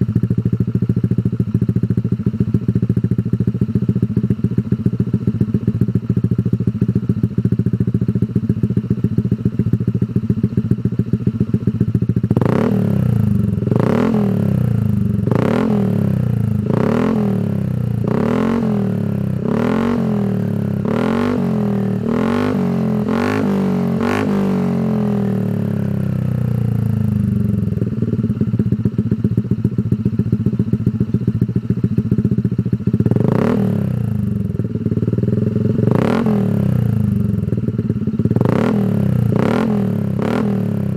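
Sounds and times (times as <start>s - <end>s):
scooter engine idling and revving: 0.0s - 40.9s.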